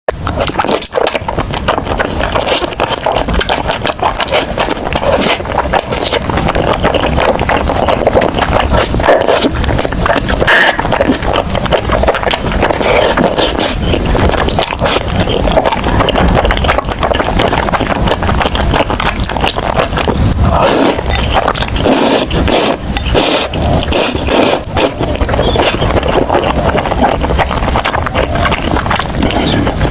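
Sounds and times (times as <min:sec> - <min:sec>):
chewing and crunching food: 0:00.1 - 0:29.9.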